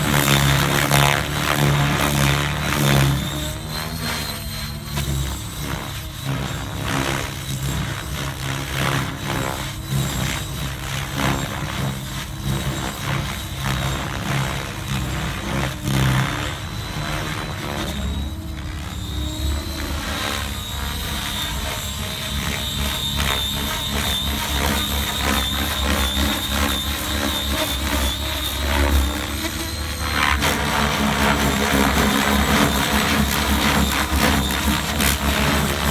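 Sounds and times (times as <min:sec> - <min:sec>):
helicopter rotor drone: 0:00.0 - 0:35.9
high drivetrain whine: 0:00.0 - 0:35.9.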